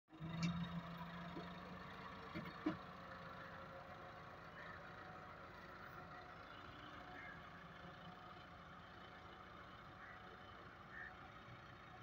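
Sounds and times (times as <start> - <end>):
tractor diesel engine: 0.1 - 12.0.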